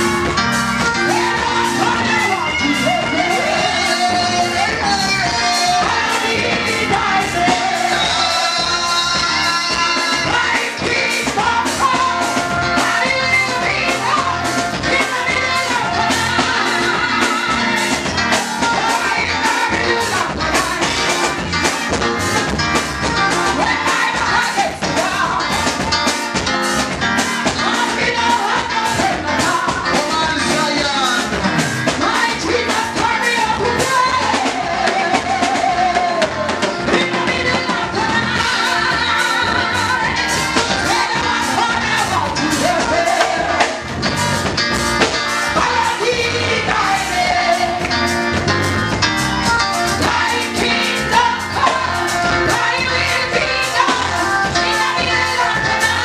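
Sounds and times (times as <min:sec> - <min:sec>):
fast steady drum beat: 0:00.0 - 0:56.0
gospel singing: 0:00.0 - 0:56.0.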